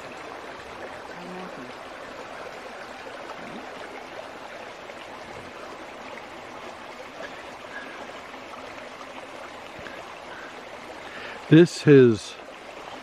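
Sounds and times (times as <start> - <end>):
creek flowing: 0.0 - 13.0.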